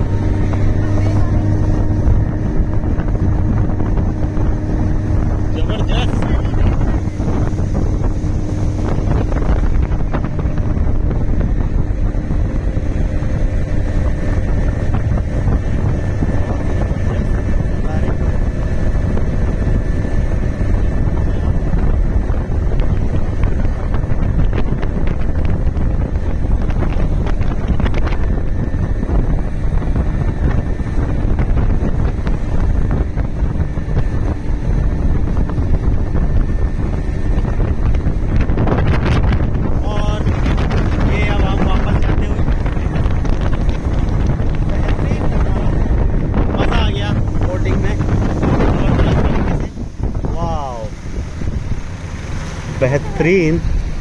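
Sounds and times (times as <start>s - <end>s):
motorboat engine hum: 0.0s - 54.0s
water rushing past hull: 0.0s - 54.0s
wind buffeting microphone: 0.0s - 54.0s.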